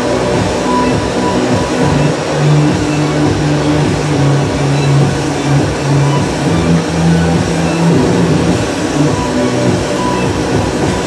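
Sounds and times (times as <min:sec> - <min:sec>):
gas burners roaring: 0:00.0 - 0:11.0
low music notes: 0:00.0 - 0:11.0.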